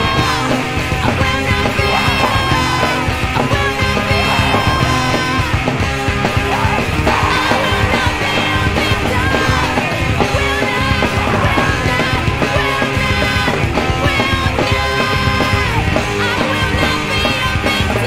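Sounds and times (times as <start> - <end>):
loud full-band rock music: 0.0 - 18.0.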